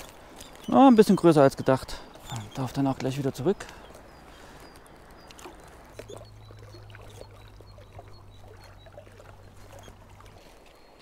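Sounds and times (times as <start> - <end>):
stream water splashing and trickling: 0.0 - 11.0.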